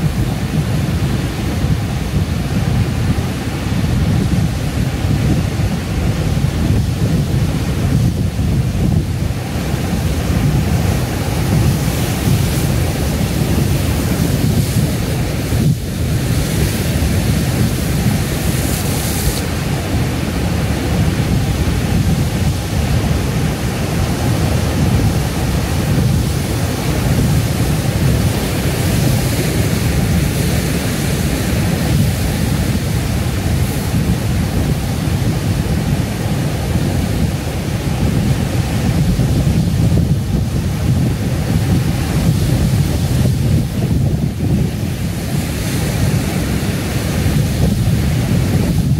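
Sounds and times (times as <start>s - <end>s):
ocean surf breaking on rocks: 0.0s - 48.9s.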